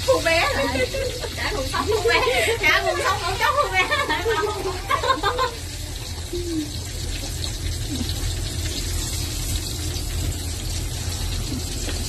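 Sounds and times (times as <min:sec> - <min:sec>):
shrimp deep-frying in oil: 0:00.0 - 0:12.0.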